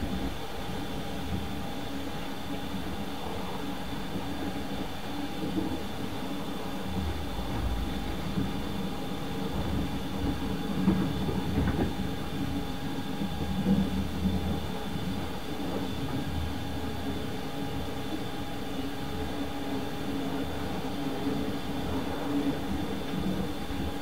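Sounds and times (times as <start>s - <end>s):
constant hum: 0.0s - 24.0s
train wheels rumbling on rail: 0.0s - 24.0s.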